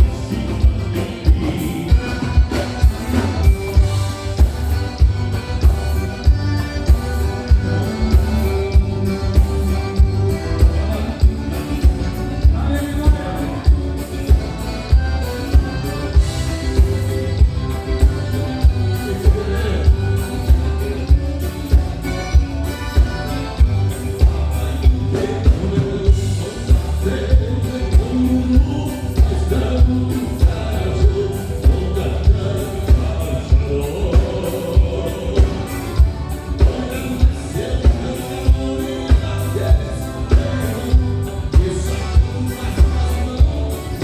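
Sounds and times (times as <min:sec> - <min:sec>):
live band music over pa: 0:00.0 - 0:44.0
steady drum beat: 0:00.0 - 0:44.0.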